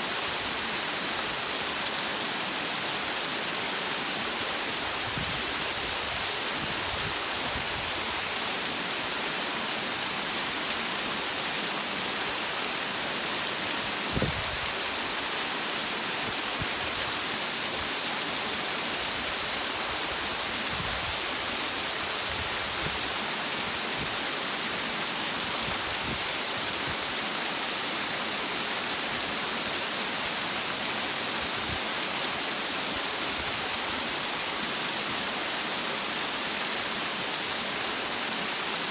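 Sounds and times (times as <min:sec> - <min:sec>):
waterfall and river rushing: 0:00.0 - 0:38.9.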